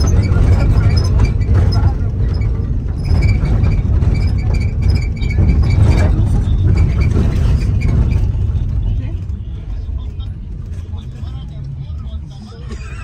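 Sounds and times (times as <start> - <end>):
rattles and knocks of bus body: 0.0 - 11.9
bus rumbling in motion: 0.0 - 13.0.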